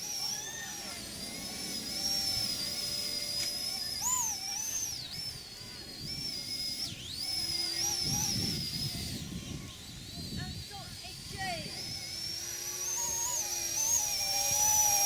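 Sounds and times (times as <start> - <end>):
toy helicopter motor whining: 0.0 - 15.0.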